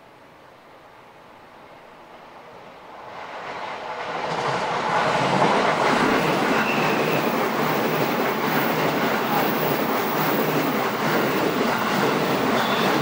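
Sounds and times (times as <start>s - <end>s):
train wheels running on rails: 2.4s - 13.0s.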